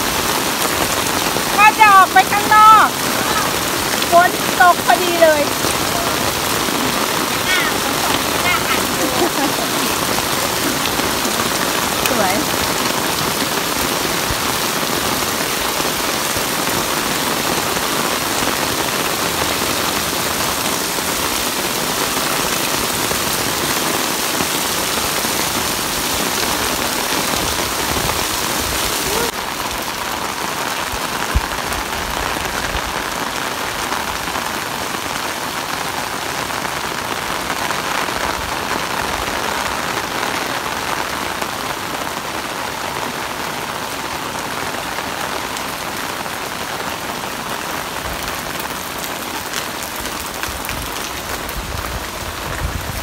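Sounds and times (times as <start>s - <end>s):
heavy rain on pavement: 0.0s - 53.0s.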